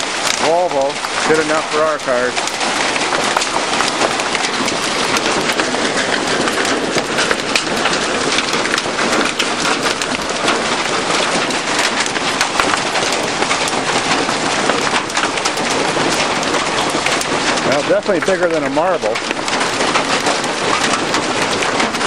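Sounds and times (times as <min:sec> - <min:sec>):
heavy hail clattering: 0:00.0 - 0:22.0.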